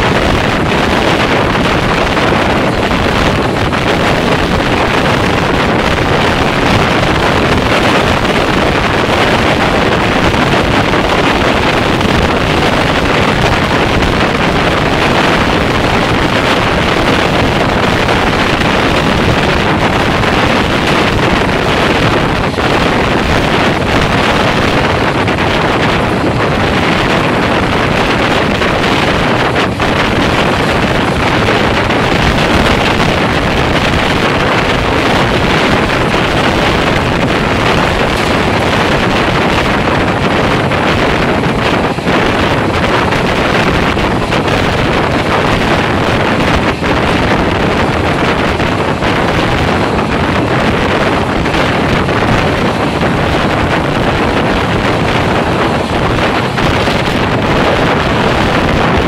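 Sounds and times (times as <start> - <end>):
train wheels on track: 0.0 - 59.0
wind on microphone: 0.0 - 59.0.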